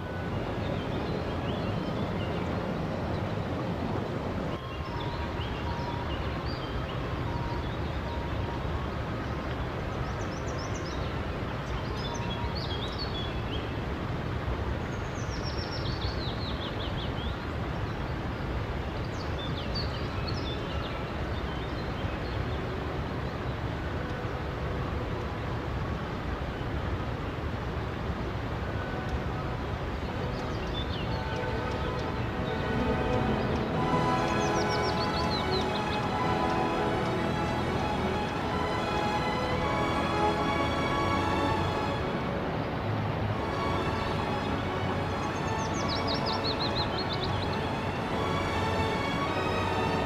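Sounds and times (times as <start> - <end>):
river flowing: 0.0 - 50.0
songbirds chirping: 0.0 - 50.0.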